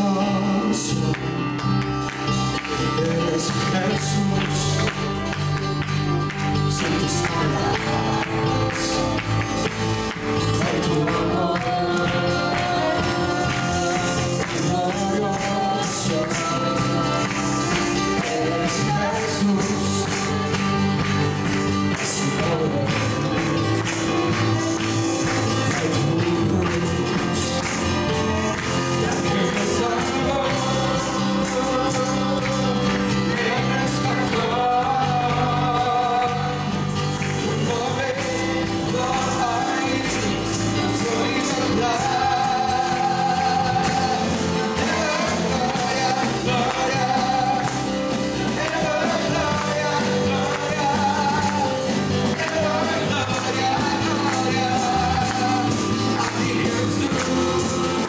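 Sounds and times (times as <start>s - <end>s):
person singing: 0.0s - 58.0s
worship band playing: 0.0s - 58.0s
tambourines shaken and struck: 1.7s - 58.0s.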